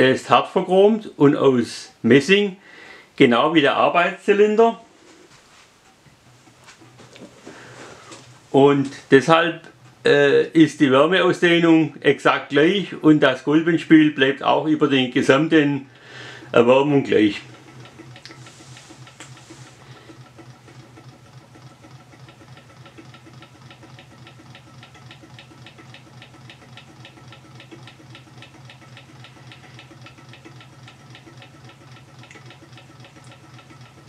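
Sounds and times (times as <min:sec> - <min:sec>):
engine mechanism ticking: 0:00.0 - 0:04.8, 0:05.8 - 0:34.0.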